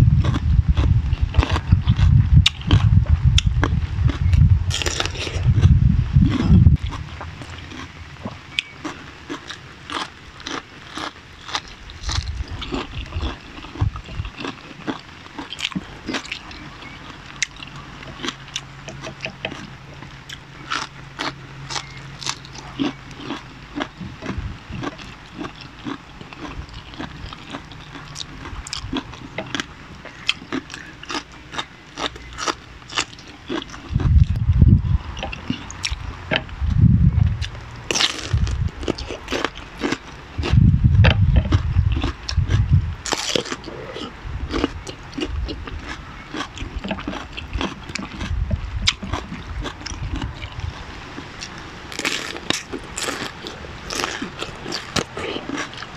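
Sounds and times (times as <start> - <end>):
crunching and chewing: 0.0 - 55.9.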